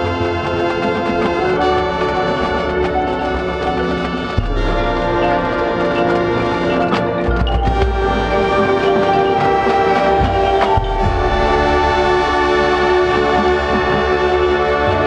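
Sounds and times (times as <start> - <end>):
marching band brass chords: 0.0 - 15.0
percussion hits: 0.0 - 15.0.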